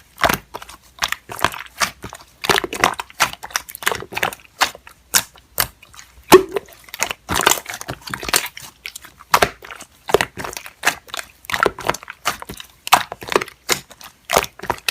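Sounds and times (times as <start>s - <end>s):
slime squeezed popping and crackling: 0.0s - 14.9s.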